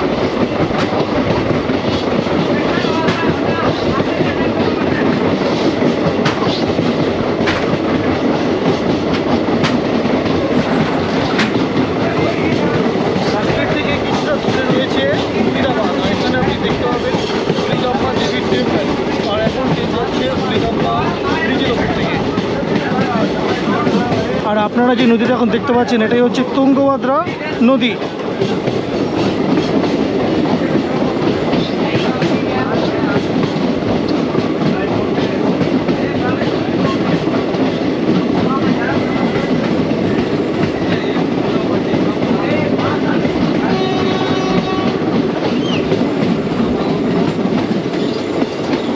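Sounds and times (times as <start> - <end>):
track clatter: 0.0 - 48.9
train rumbling on rails: 0.0 - 48.9.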